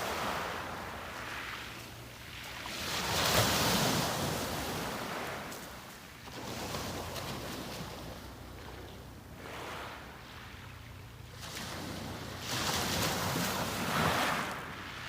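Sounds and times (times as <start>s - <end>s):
sea waves washing onto beach: 0.0s - 8.8s, 9.4s - 15.0s.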